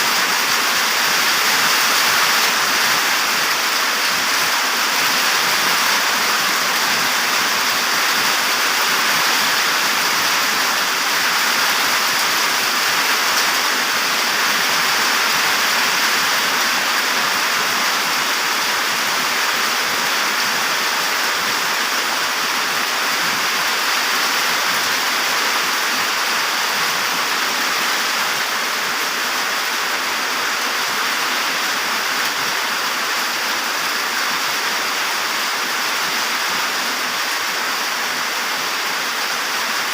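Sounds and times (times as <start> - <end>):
drizzling rain: 0.0 - 39.9.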